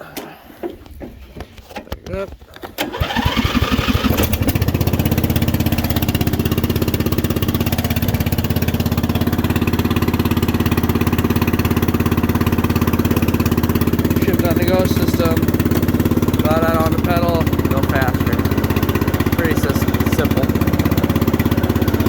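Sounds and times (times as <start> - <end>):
mower engine cranking and starting: 0.1 - 22.0.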